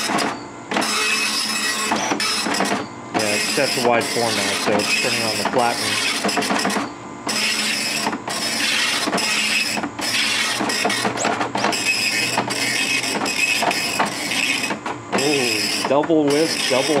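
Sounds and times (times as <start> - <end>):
dot matrix printer rasping buzz: 0.0 - 17.0.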